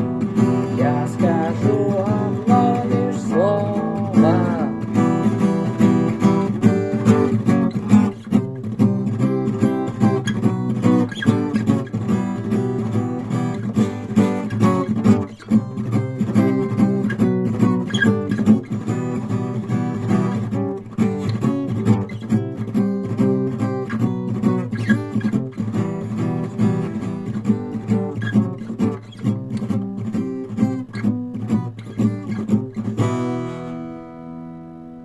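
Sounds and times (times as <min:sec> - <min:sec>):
acoustic guitar strummed and plucked: 0:00.0 - 0:35.0.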